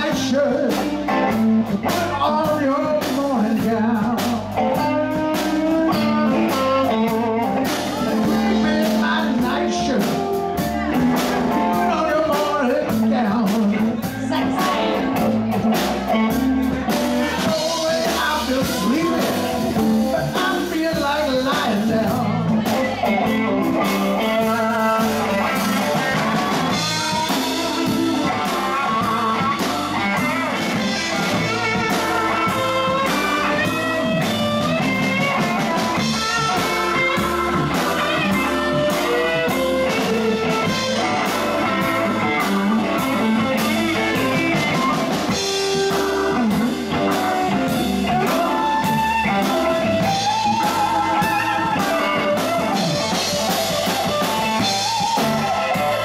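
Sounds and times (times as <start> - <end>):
drum kit: 0.0 - 56.0
electric bass: 0.0 - 56.0
electric guitar: 0.0 - 56.0
keyboard: 0.0 - 56.0.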